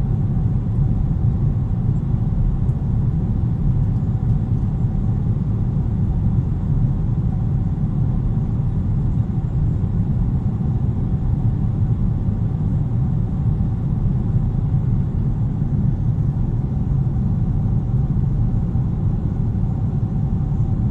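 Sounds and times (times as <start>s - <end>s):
airliner cabin engine rumble: 0.0s - 20.9s
faint constant hum: 0.0s - 20.9s.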